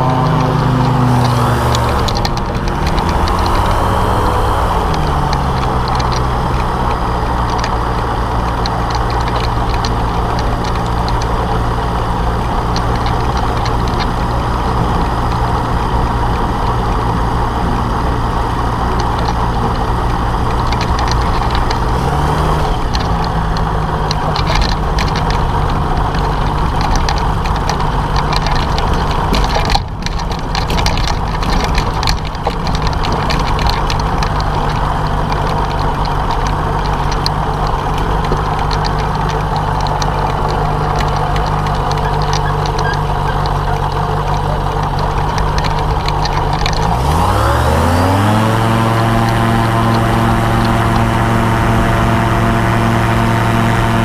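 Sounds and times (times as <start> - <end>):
trike engine and propeller: 0.0 - 54.0.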